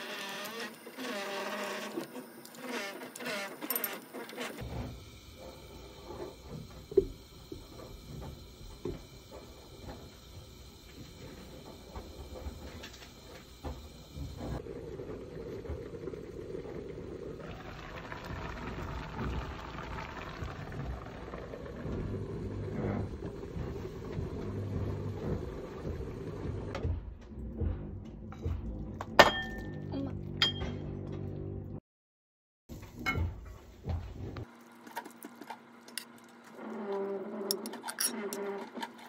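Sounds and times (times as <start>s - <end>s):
stew boiling in a pan: 0.0s - 27.0s, 32.7s - 39.0s.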